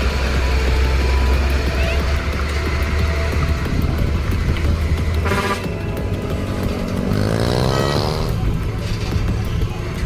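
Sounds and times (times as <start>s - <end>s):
background music: 0.0s - 10.0s
heavy vehicle engine running: 0.0s - 10.0s.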